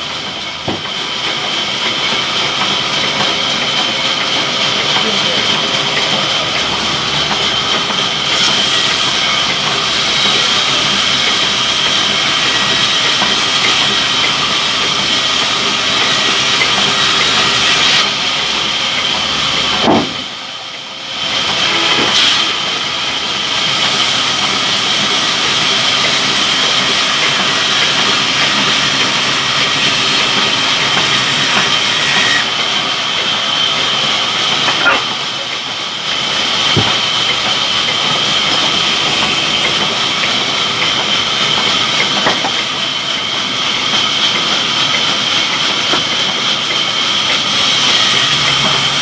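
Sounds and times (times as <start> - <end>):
sawmill saw cutting log: 0.0 - 49.0.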